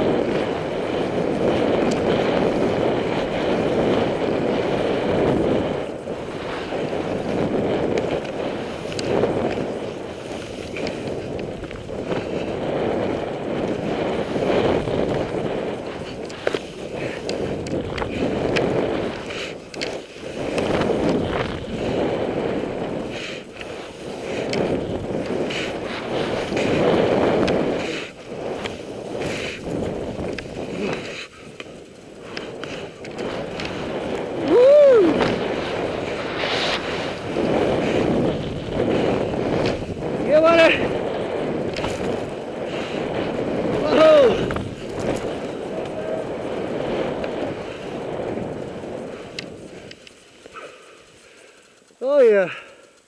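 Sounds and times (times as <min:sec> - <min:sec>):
skis hissing through powder snow: 0:00.0 - 0:53.0
wind over microphone: 0:00.0 - 0:53.0.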